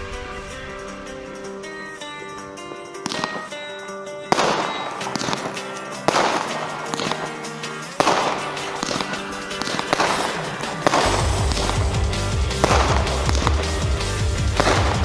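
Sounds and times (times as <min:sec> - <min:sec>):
background music: 0:00.0 - 0:15.0
fireworks bangs with crackling: 0:02.9 - 0:15.0.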